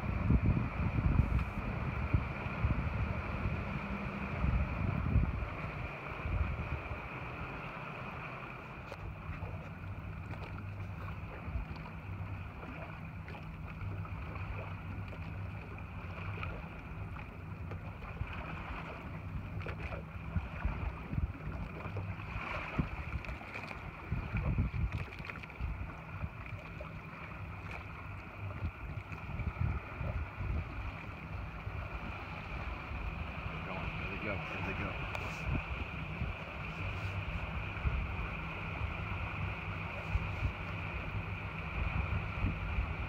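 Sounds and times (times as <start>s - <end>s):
boat engine idling: 0.0s - 43.0s
wind rumbling on microphone: 0.0s - 43.0s.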